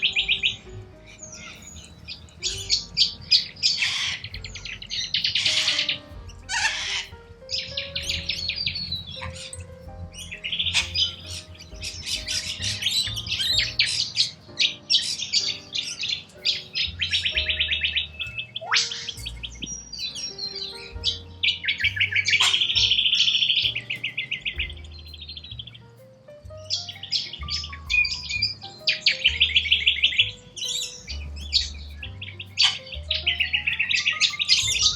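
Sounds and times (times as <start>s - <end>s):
birds chattering and trilling: 0.0s - 9.6s, 10.2s - 25.9s, 26.8s - 34.9s
soft background music: 0.0s - 34.9s.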